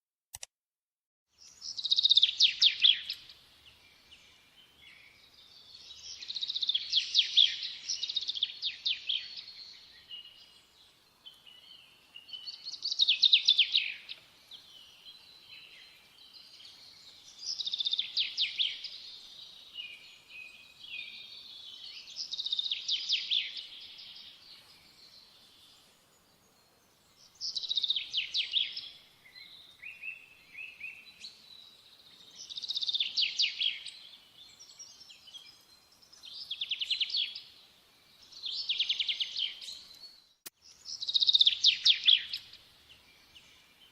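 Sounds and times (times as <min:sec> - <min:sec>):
songbird singing: 0:01.3 - 0:43.9
soft bird twittering: 0:01.4 - 0:43.9.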